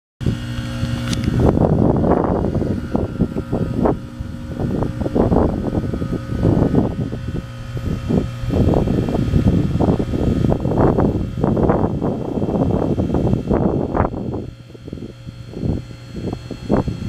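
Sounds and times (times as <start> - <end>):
compressor hum: 0.2 - 17.0.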